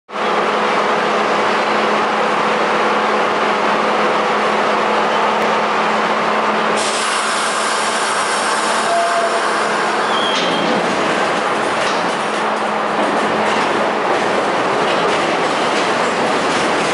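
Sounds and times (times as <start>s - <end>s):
subway cars running: 0.1s - 16.9s.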